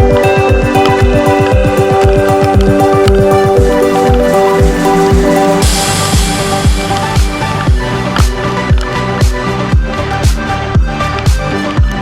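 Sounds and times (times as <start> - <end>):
held synth notes: 0.0 - 11.6
deep bass kicks: 0.0 - 12.0
electronic music: 0.0 - 12.0.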